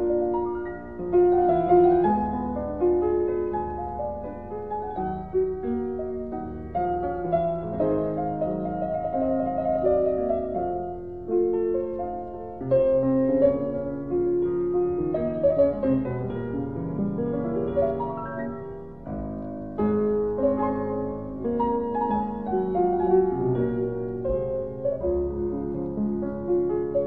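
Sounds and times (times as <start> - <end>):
slow piano melody: 0.0 - 27.0.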